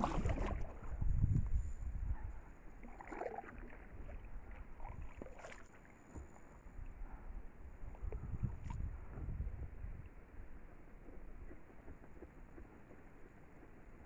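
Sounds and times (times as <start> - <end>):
wind rumble on microphone: 0.0 - 5.4, 6.2 - 13.3.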